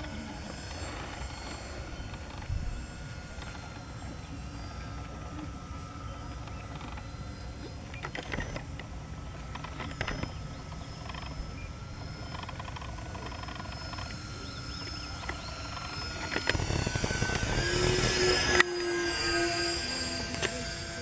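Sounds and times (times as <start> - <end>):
model plane motors whining: 0.0 - 21.0.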